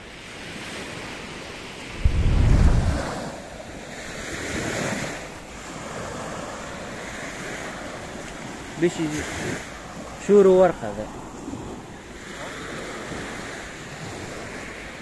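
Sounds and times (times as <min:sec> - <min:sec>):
waves breaking on sandy beach: 0:00.0 - 0:15.0
wind buffeting microphone: 0:01.8 - 0:15.0.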